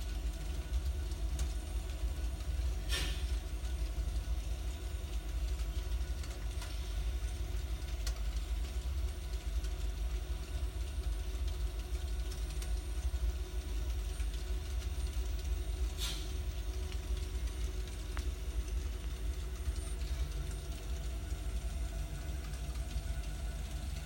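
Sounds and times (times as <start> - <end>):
model train rumbling: 0.0 - 24.0.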